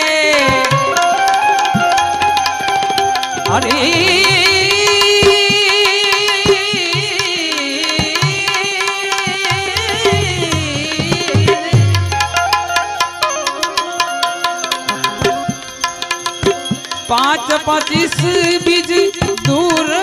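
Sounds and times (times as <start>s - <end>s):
harmonium: 0.0s - 20.0s
tabla strokes: 0.0s - 20.0s.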